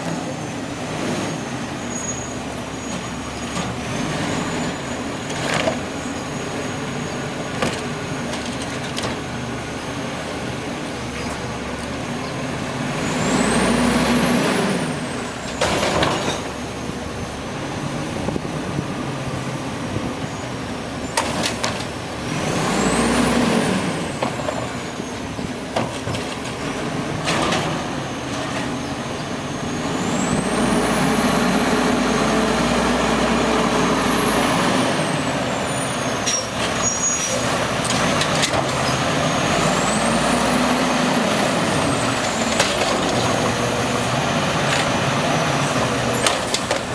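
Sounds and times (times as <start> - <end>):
garbage truck engine revving: 0.0 - 46.9.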